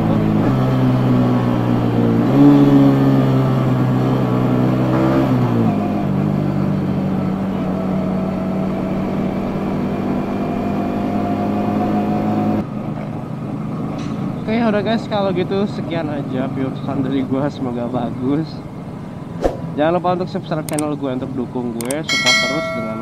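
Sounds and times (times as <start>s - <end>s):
motorcycle engine while riding: 0.0s - 23.0s.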